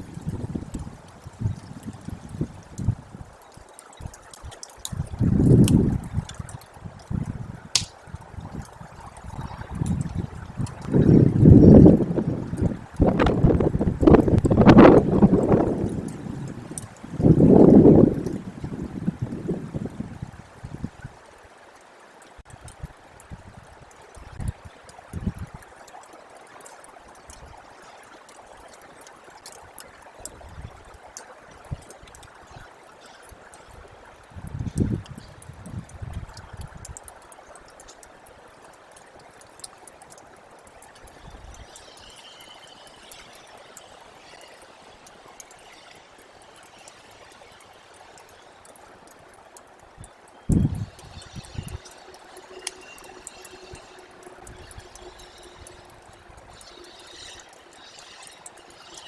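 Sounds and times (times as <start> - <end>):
faint high ticks: 0.0 - 59.0
meltwater trickling: 0.0 - 59.0.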